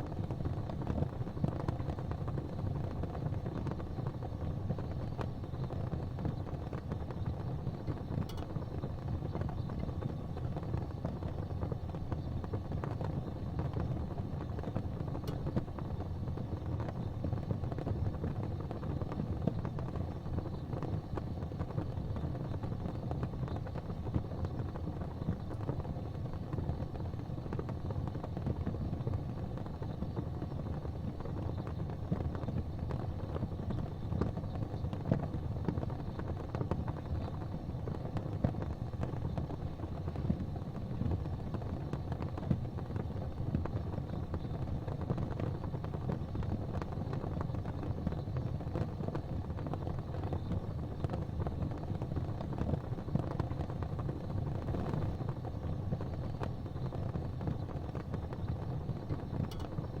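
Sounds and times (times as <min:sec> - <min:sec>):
gas fireplace flames rumbling: 0:00.0 - 1:00.0.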